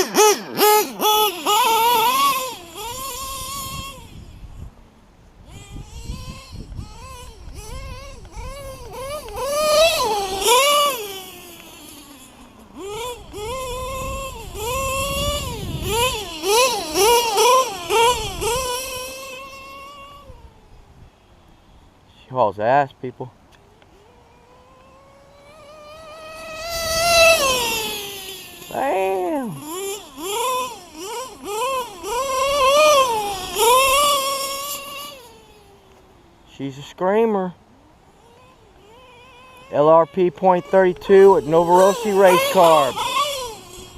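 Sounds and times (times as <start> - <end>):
nitro engine screaming: 0.0 - 4.4, 5.5 - 20.5, 24.0 - 35.9, 37.7 - 43.9.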